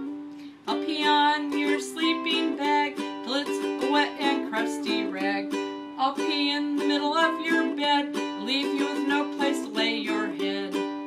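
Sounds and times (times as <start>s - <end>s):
person singing: 0.0s - 11.0s
ukulele strumming: 0.0s - 11.0s.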